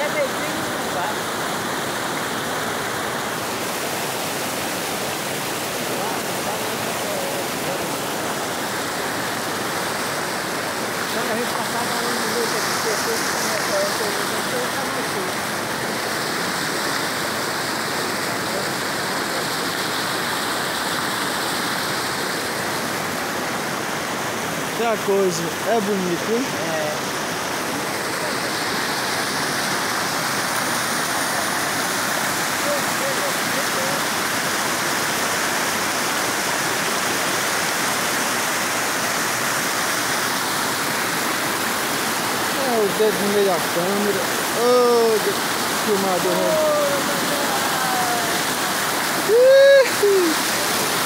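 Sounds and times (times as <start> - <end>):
water rushing: 0.0 - 51.0.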